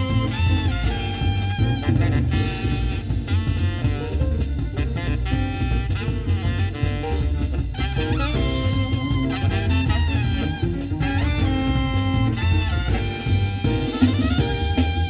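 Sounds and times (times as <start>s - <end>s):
jazzy music with brass and drums: 0.0s - 15.0s.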